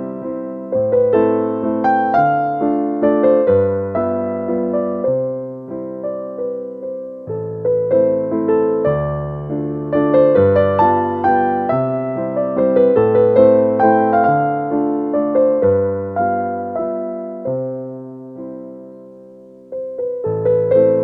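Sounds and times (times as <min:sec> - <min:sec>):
slow piano tune: 0:00.0 - 0:21.0.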